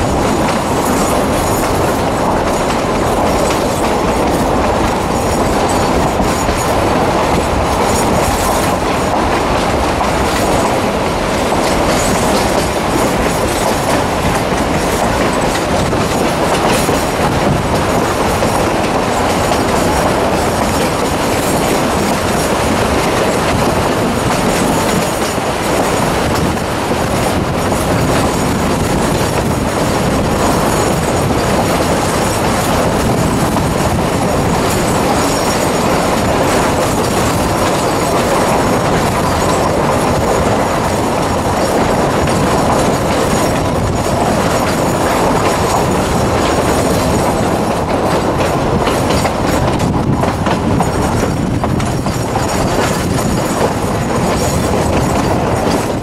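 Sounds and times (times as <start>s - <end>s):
train wheels rumbling and rattling: 0.0s - 56.0s.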